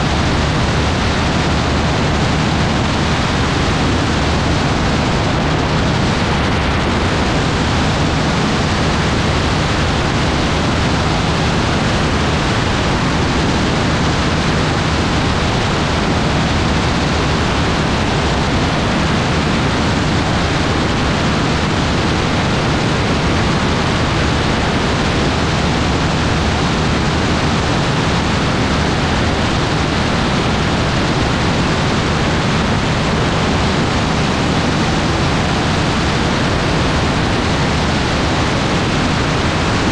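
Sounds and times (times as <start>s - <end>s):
low engine drone: 0.0s - 39.9s
wind rushing over microphone: 0.0s - 39.9s.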